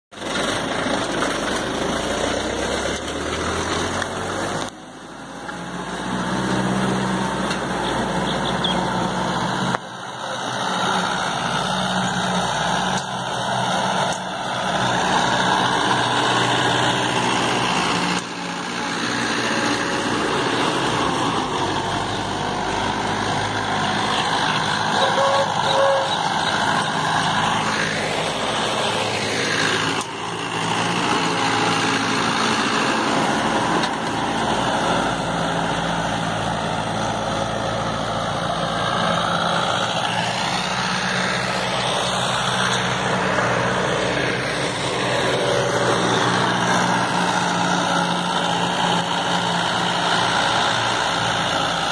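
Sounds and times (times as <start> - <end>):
tractor diesel engine running: 0.1 - 51.9.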